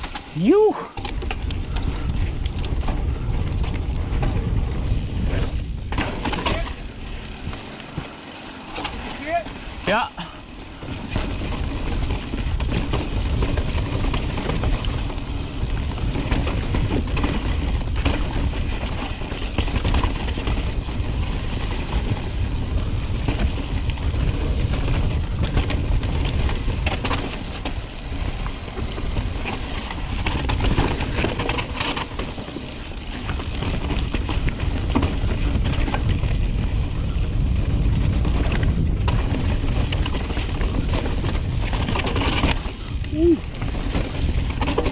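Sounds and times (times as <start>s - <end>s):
bike rattling over rocks: 0.0s - 44.9s
wind and tyres rumbling: 0.0s - 44.9s.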